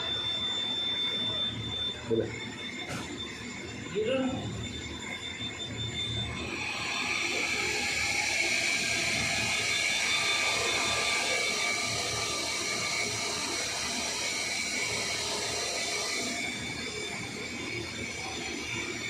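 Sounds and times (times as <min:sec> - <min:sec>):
milling machine hiss and whine: 0:00.0 - 0:19.0.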